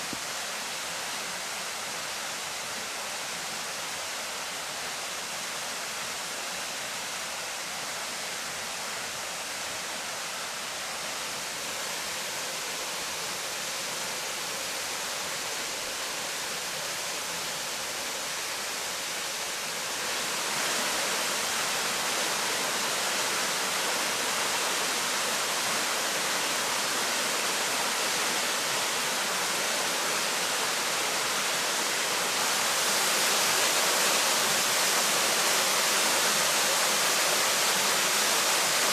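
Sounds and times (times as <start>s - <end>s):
falling water rushing: 0.0s - 38.9s.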